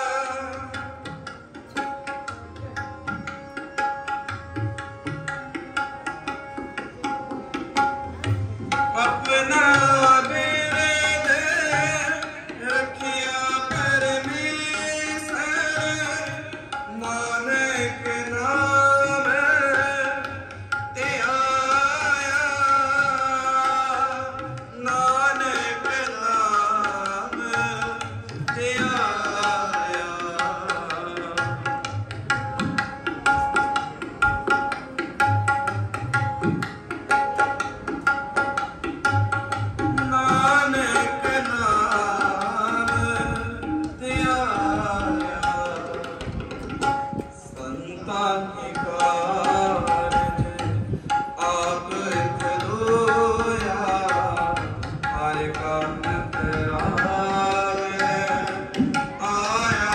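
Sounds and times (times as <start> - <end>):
harmonium playing: 0.0 - 59.9
tabla playing: 0.0 - 59.9.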